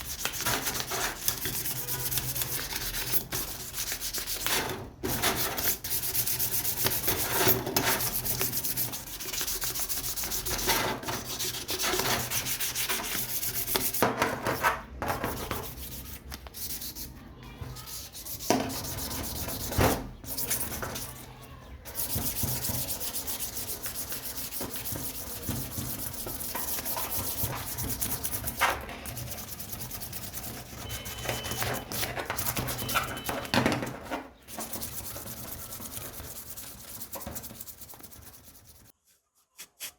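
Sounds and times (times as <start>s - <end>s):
sanding scraping: 0.0s - 33.5s, 34.5s - 39.9s.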